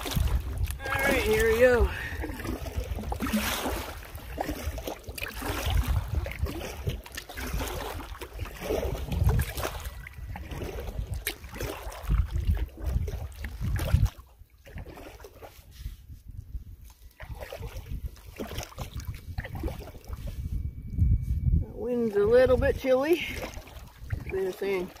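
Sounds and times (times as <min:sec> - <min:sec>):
wind gusting on microphone: 0:00.0 - 0:15.0, 0:15.6 - 0:24.9.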